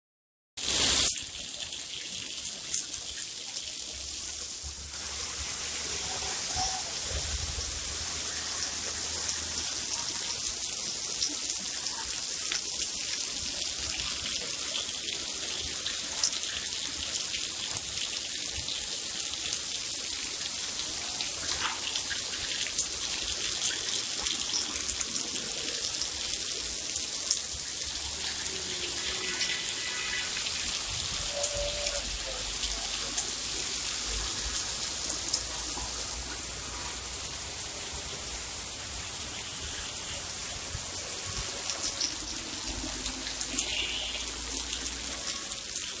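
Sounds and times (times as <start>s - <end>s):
rain falling: 0.6s - 46.0s.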